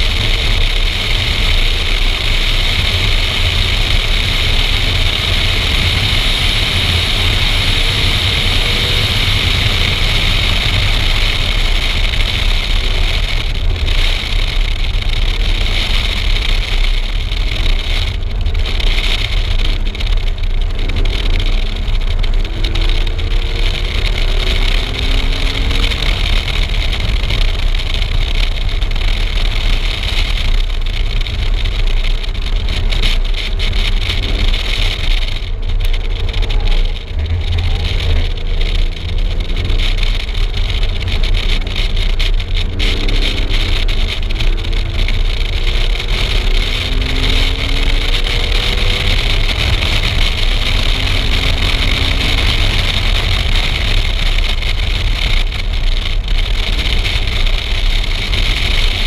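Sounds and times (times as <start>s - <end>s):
wind rush and rumble: 0.0s - 59.0s.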